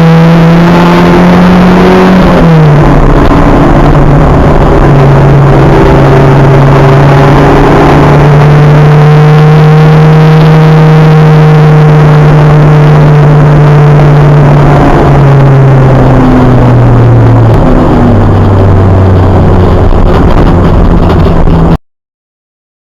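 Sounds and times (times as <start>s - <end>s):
race car engine revving loudly: 0.0s - 21.8s.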